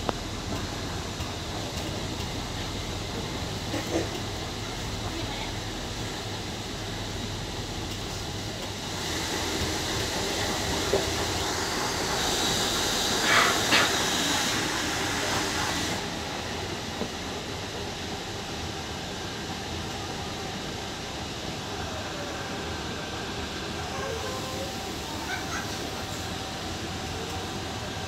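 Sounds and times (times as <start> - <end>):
train wheels running on track: 0.0 - 28.0.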